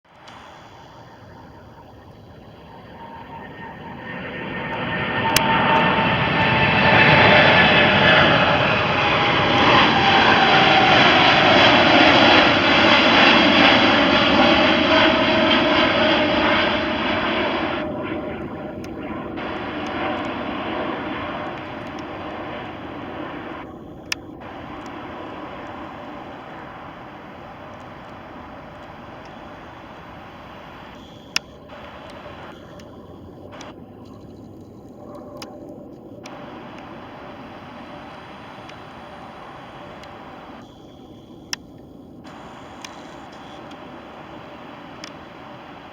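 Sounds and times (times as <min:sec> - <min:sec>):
jet engines roaring at takeoff: 0:00.0 - 0:45.9.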